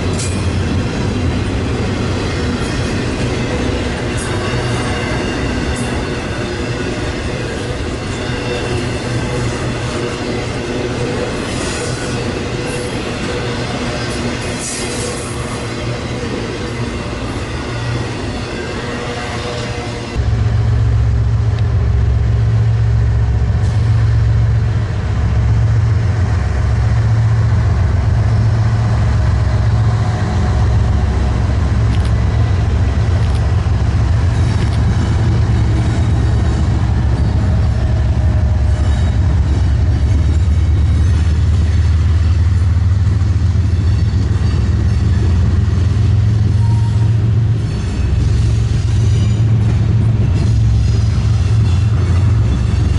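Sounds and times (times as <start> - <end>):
diesel locomotive engine rumble: 0.0 - 52.9.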